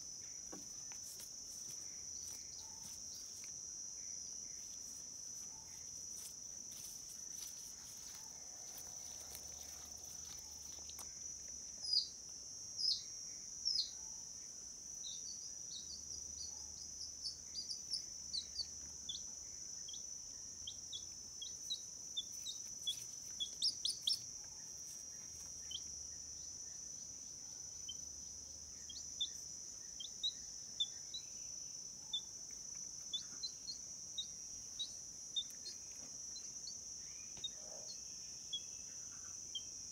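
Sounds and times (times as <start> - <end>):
high insect drone: 0.0 - 39.9
small bird chirping: 0.0 - 39.9.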